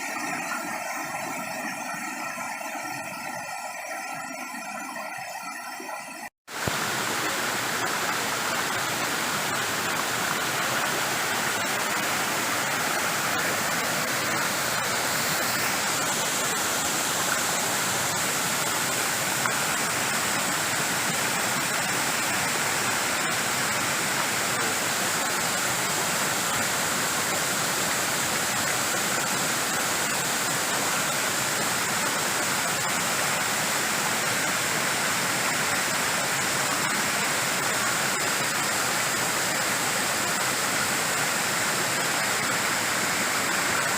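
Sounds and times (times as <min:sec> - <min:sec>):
waterfall pouring: 0:00.0 - 0:43.9.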